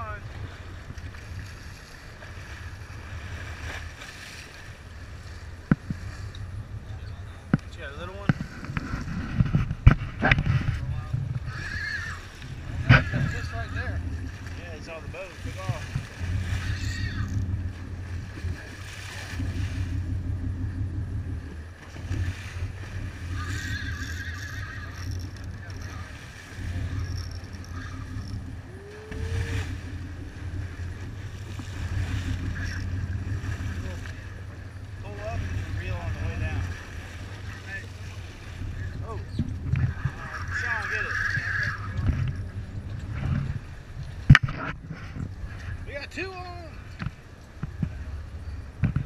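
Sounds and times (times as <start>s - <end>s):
wind on microphone: 0.0s - 45.9s
boat engine rumbling: 0.0s - 49.0s
water washing along hull: 0.0s - 49.0s.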